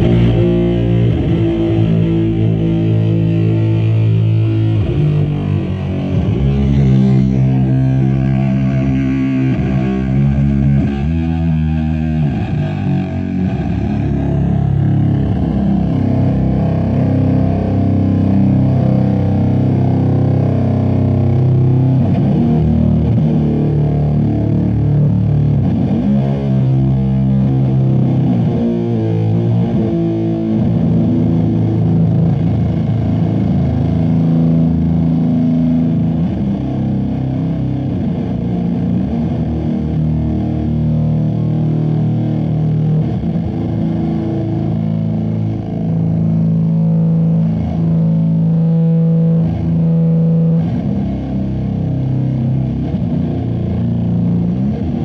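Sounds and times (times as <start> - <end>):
fuzzed electric guitar chords: 0.0 - 55.0.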